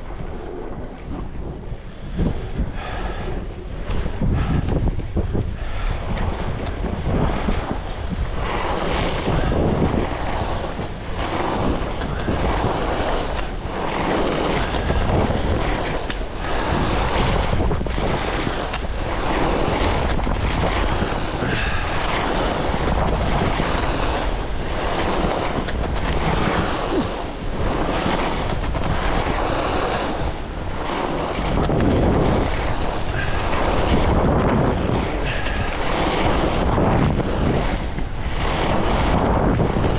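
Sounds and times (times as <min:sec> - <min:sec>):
skis swishing on snow: 0:00.0 - 0:39.9
wind on microphone: 0:00.0 - 0:39.9.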